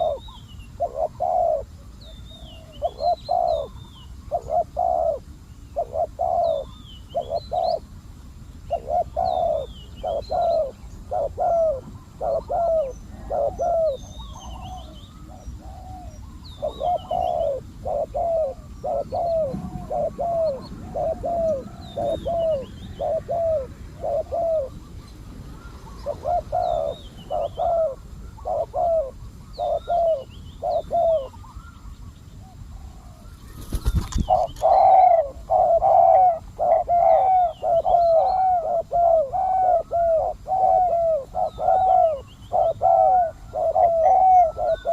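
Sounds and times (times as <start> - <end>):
doves cooing: 0.0 - 8.0, 8.6 - 44.9.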